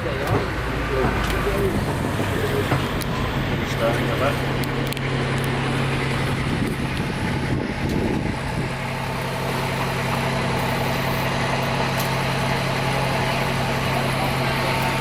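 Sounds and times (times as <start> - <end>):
engine low hum: 0.0 - 15.0
road noise: 0.0 - 15.0.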